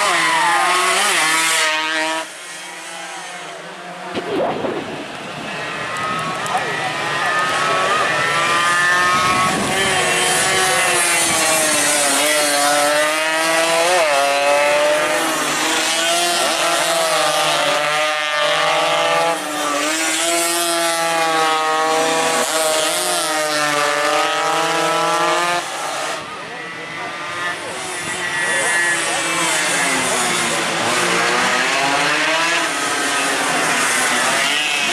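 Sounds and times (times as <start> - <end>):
motorcycle engines revving: 0.0 - 34.9.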